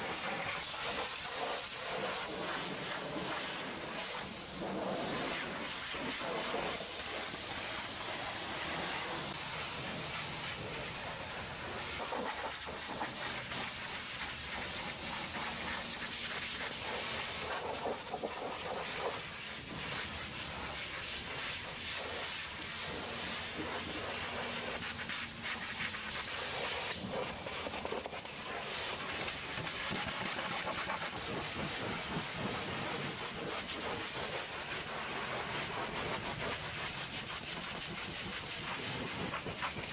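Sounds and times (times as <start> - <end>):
pressure washer spraying metal: 0.0 - 39.9.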